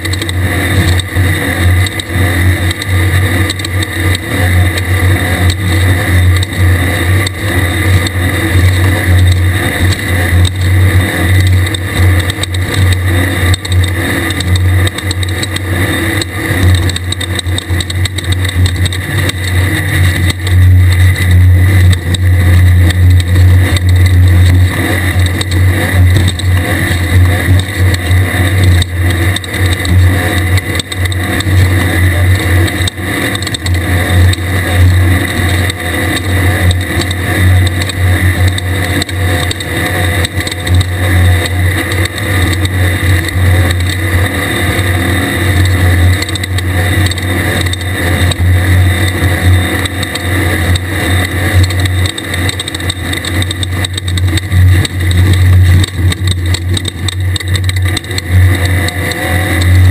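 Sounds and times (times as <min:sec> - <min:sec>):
buggy engine running hard: 0:00.0 - 0:59.9.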